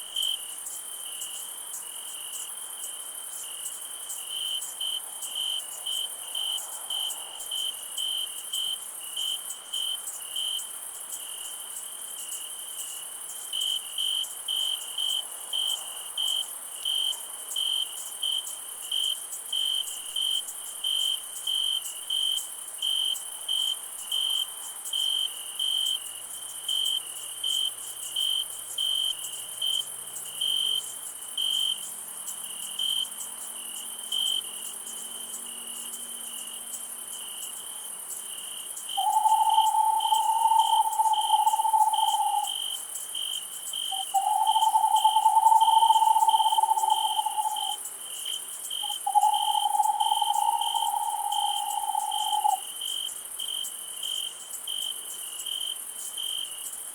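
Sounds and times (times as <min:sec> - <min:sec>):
cricket chirping: 0:00.0 - 0:56.9
high insect drone: 0:00.0 - 0:56.9.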